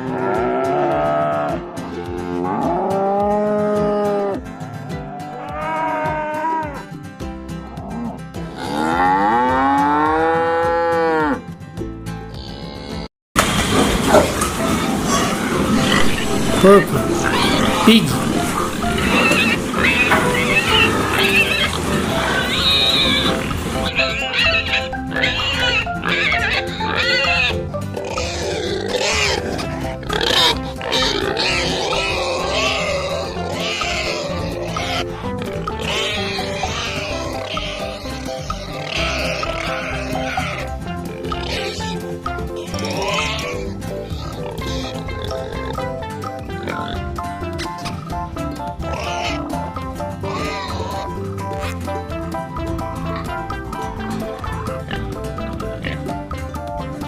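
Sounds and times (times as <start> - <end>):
cows mooing: 0.0 - 6.9, 7.6 - 11.4, 13.7 - 56.6
pig squealing: 0.0 - 6.9, 14.1 - 52.0, 53.0 - 56.4
background music: 0.0 - 57.0.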